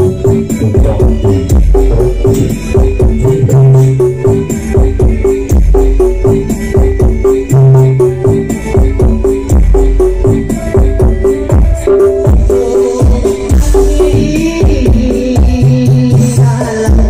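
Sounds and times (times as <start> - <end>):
loud dance music with deep bass: 0.0 - 17.0.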